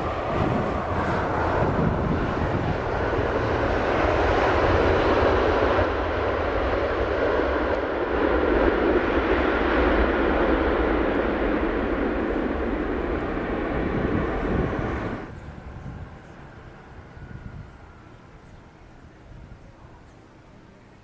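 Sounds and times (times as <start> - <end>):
jet airliner passing overhead: 0.0 - 21.0.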